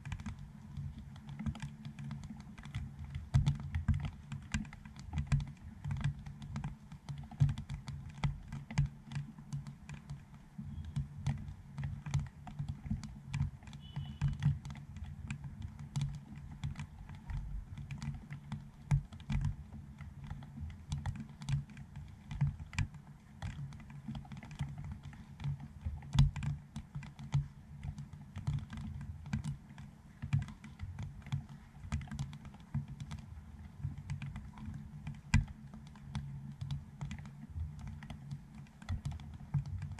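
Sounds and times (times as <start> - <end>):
raindrops tapping camera housing: 0.0 - 39.9.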